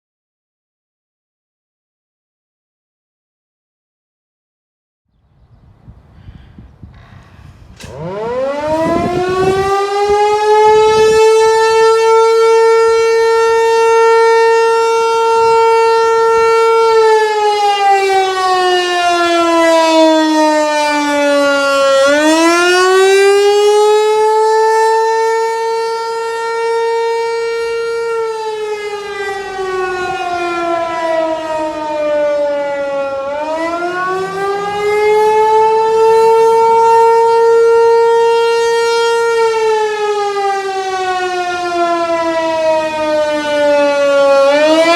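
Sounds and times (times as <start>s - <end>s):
warning siren wailing: 7.7s - 44.9s.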